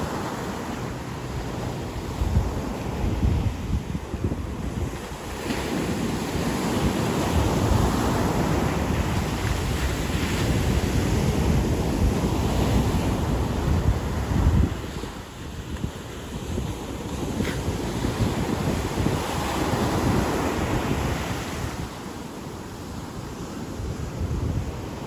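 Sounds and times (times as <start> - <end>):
waves breaking on beach: 0.0 - 25.0
wind buffeting microphone: 0.0 - 25.0.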